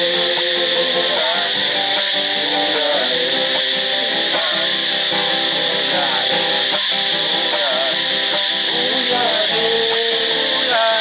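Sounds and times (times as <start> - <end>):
men singing: 0.0 - 11.0
steady high hiss: 0.0 - 11.0
strummed acoustic guitar: 0.0 - 11.0.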